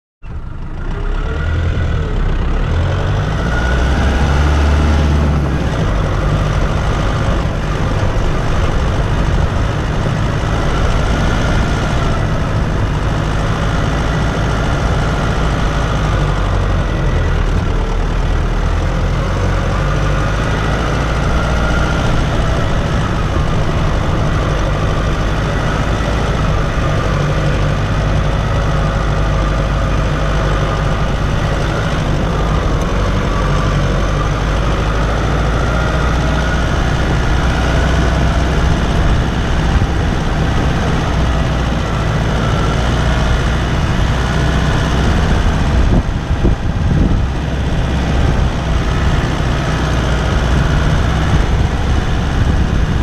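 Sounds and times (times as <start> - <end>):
diesel engine running: 0.2 - 53.0.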